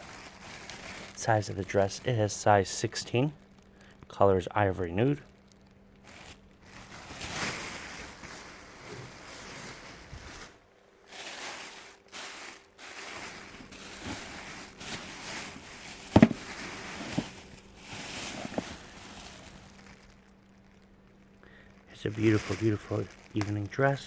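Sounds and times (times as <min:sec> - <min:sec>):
fabric and wrapping rustling: 0:00.0 - 0:03.7, 0:05.0 - 0:24.0.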